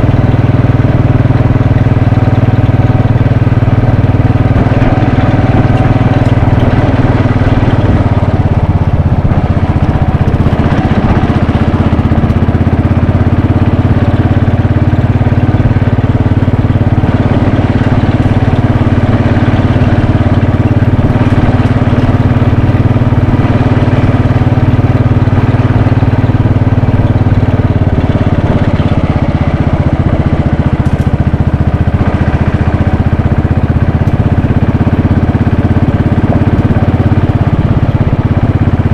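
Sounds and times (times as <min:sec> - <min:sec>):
single-cylinder motorcycle engine running: 0:00.0 - 0:38.9.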